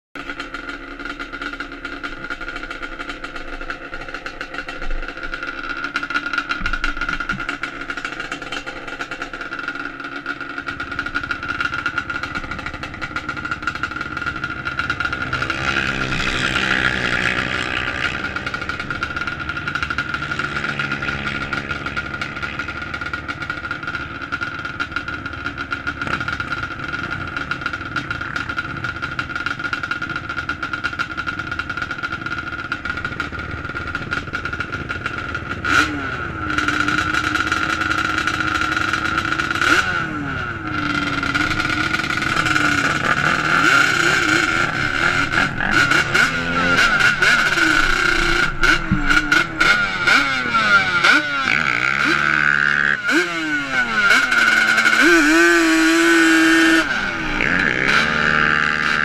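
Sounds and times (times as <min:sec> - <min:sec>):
atv engines idling: 0:00.2 - 0:59.0
engine revving: 0:00.2 - 0:59.0.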